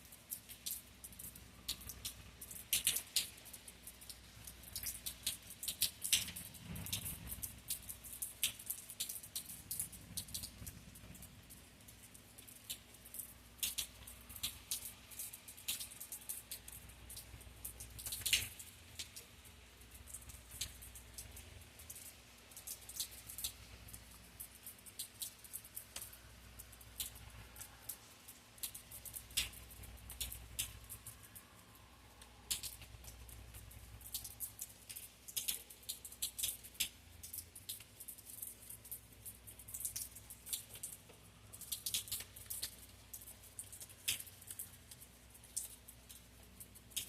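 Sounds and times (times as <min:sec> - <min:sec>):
raindrops tapping on a hard surface: 0:00.0 - 0:47.0.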